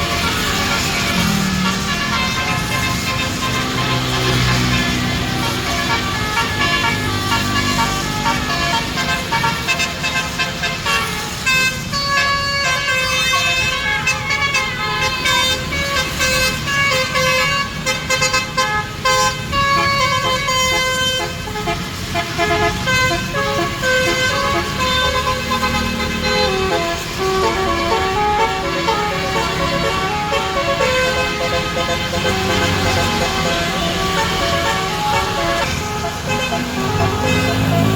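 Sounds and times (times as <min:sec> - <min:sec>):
musical bus air horn playing tune: 0:00.0 - 0:37.9.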